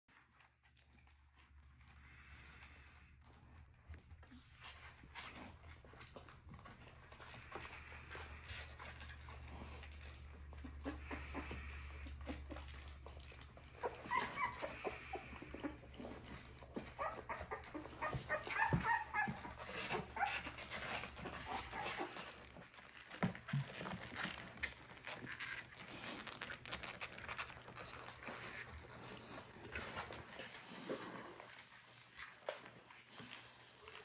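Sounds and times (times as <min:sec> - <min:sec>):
rustling: 0:00.1 - 0:34.0
puppies whimpering and squeaking: 0:04.2 - 0:34.0.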